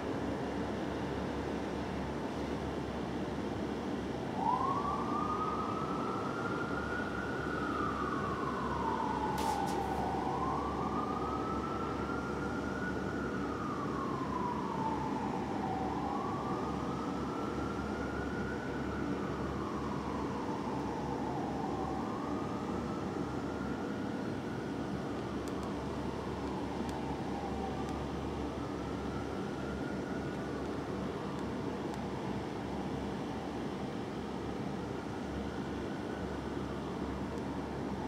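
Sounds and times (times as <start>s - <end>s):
city traffic hum: 0.0s - 38.0s
fire engine siren wailing: 0.6s - 38.0s.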